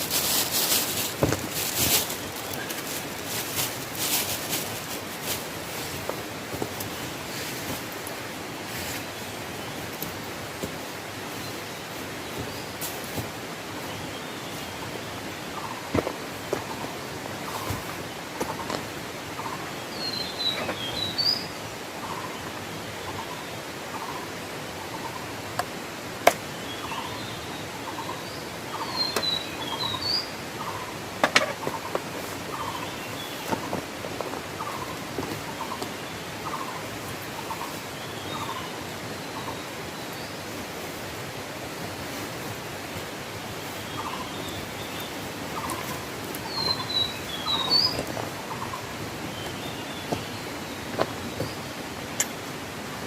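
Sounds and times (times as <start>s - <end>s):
birds chirping: 0.0s - 25.7s, 26.3s - 40.7s, 41.8s - 53.0s
steady hiss: 0.0s - 53.0s.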